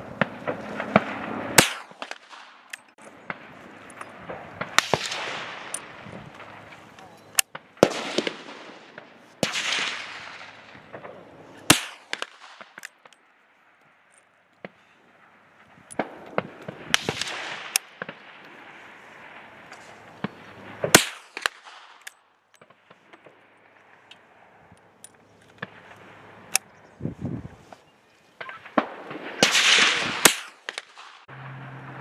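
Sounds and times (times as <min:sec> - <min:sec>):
rifle shots echoing: 0:00.1 - 0:13.4, 0:14.6 - 0:24.6, 0:28.4 - 0:31.3.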